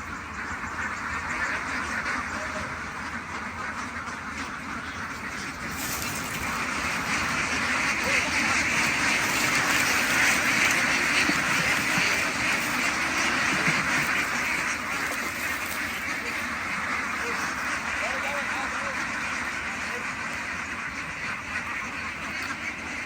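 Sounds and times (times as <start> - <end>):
flock of ducks quacking: 0.0 - 23.0.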